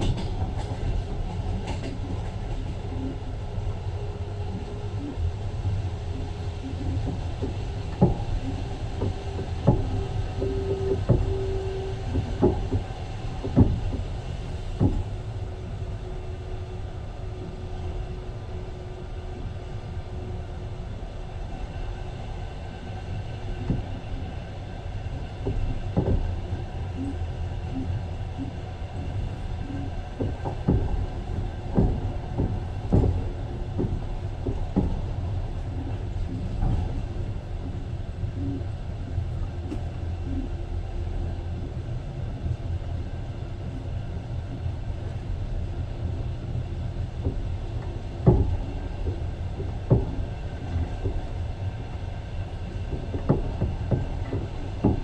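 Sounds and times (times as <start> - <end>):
train wheels clacking on rail joints: 0.0 - 19.6, 21.4 - 55.0
train rumble inside carriage: 0.0 - 55.0.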